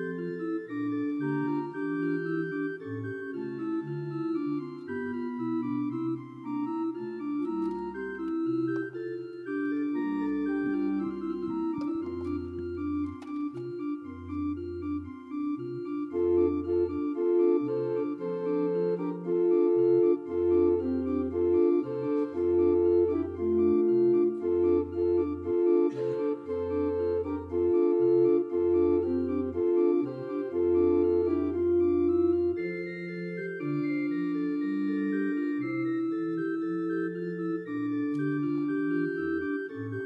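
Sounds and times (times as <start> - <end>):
church organ playing: 0.0 - 40.0.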